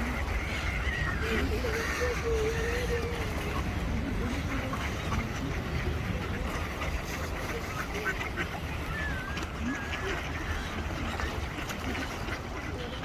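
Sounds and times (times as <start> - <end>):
ducks and waterbirds calling: 0.0 - 13.0
low city rumble: 0.0 - 13.0.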